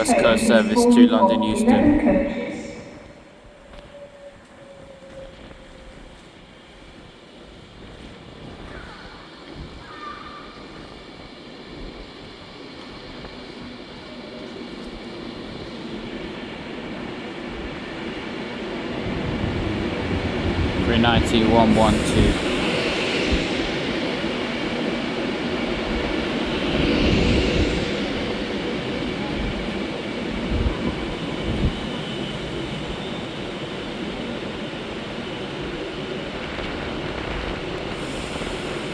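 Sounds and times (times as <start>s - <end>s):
electric train rumbling: 0.0s - 38.9s.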